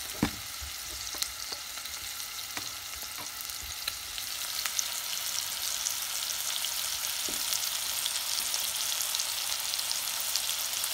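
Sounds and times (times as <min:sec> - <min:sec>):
fish searing in butter: 0:00.0 - 0:10.9.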